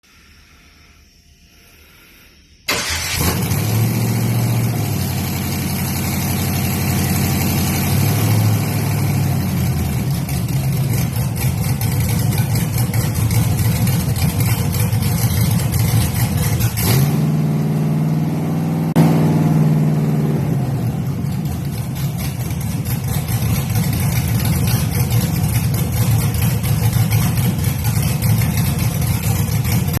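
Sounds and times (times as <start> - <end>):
car engine starting and idling: 2.6 - 30.0
engine revving: 2.7 - 30.0.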